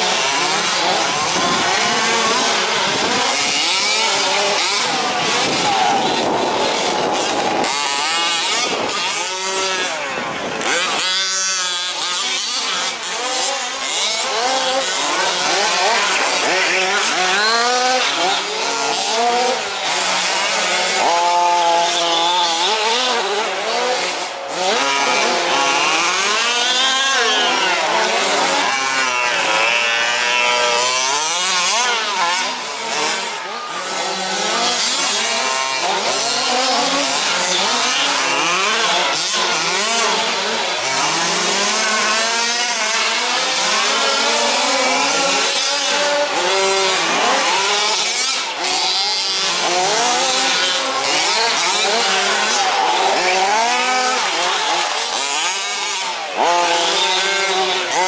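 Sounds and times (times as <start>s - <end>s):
small engines revving: 0.0s - 58.0s.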